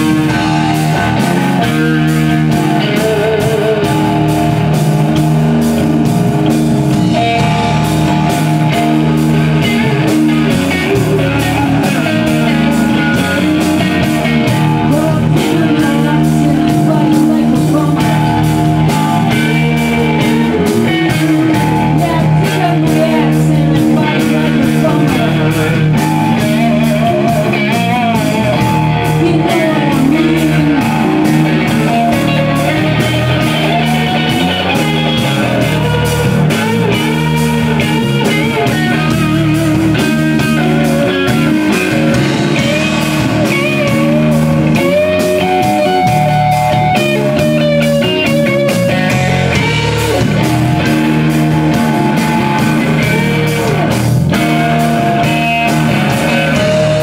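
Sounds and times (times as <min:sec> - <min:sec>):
drums: 0:00.0 - 0:57.0
electric guitar blues rock lead: 0:00.0 - 0:57.0
low bass notes: 0:00.0 - 0:57.0.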